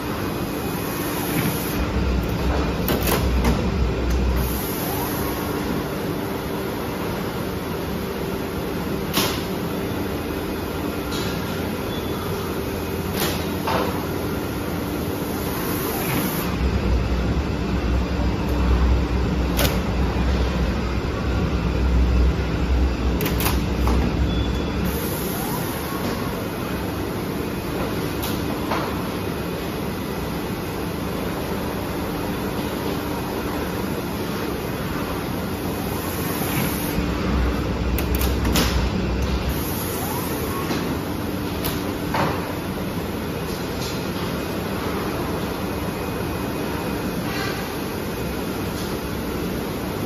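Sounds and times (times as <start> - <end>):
factory machinery hum: 0.0 - 50.0.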